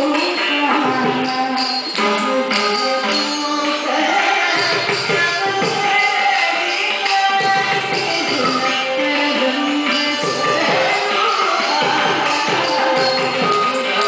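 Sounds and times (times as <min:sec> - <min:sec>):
jingling percussion strikes: 0:00.0 - 0:14.0
violin: 0:00.0 - 0:14.0
woman singing: 0:00.0 - 0:14.0.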